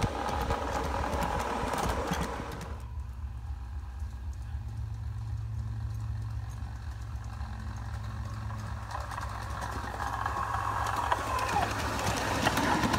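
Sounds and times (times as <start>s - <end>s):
miniature locomotive running: 0.0s - 12.9s
wheels clicking over rail joints: 0.0s - 12.9s.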